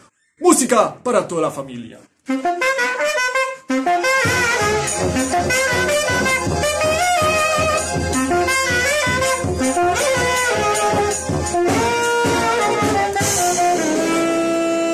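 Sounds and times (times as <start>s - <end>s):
brass band playing: 2.3s - 14.9s.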